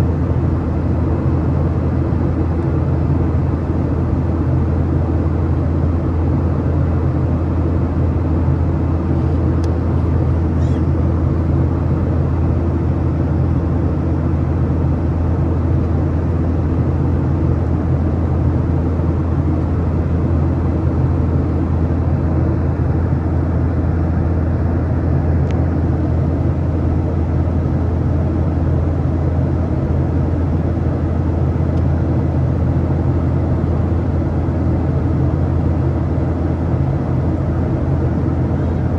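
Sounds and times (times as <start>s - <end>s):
jet engines humming: 0.0s - 38.9s.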